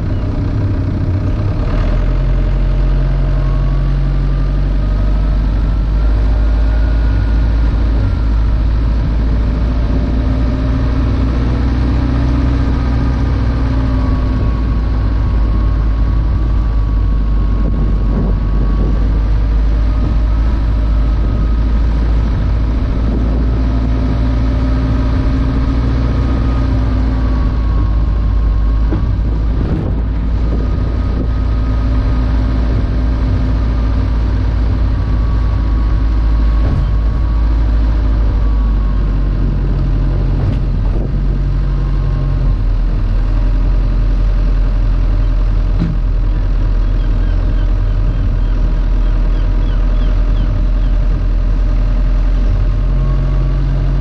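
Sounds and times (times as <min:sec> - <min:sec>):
car engine: 0:00.0 - 0:54.0
road and wind noise: 0:00.0 - 0:54.0.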